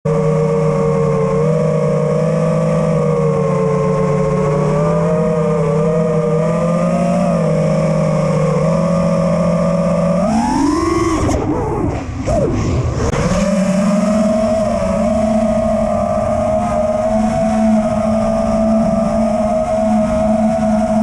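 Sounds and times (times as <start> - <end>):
drone motors whining: 0.1 - 21.0.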